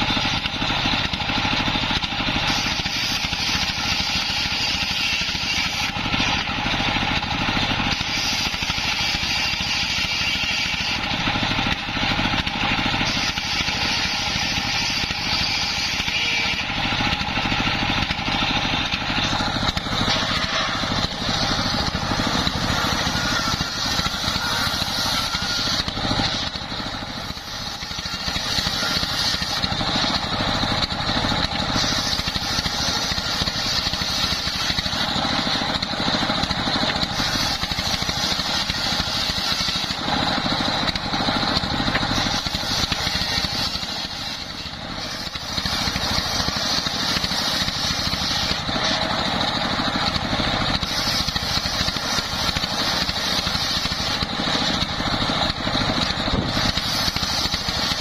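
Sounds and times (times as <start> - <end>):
circular saw ripping a log: 0.0 - 58.0
stationary engine running: 0.0 - 58.0.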